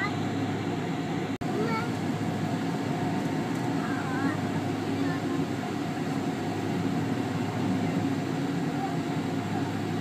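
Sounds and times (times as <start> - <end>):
jet engine drone in cabin: 0.0 - 10.0.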